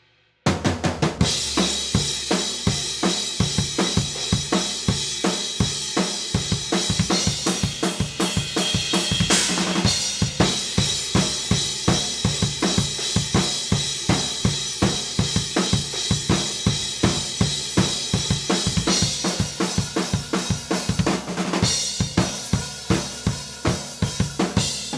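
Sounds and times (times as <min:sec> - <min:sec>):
drum kit groove: 0:00.5 - 0:24.9.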